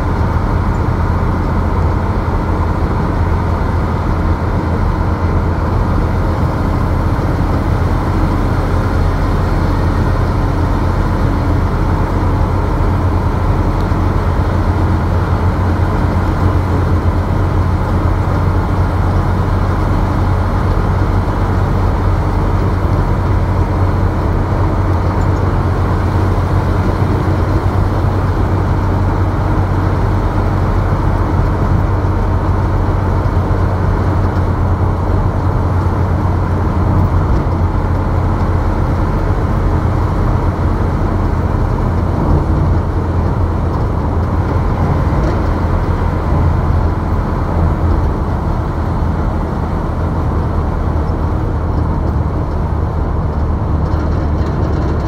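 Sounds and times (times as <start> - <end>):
road vehicle engine hum: 0.0 - 55.0
tyre and road noise: 0.0 - 55.0.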